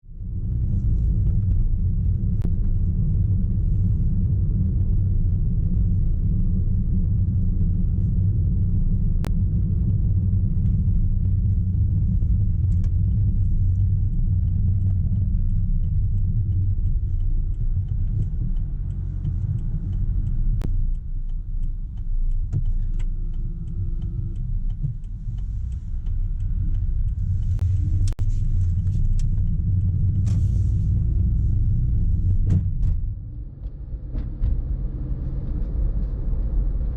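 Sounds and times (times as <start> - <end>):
car engine and road noise: 0.0 - 36.9.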